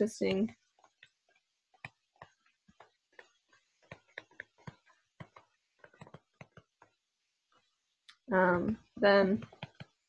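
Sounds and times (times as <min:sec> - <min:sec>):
stylus tapping on tablet screen: 0:00.0 - 0:10.0.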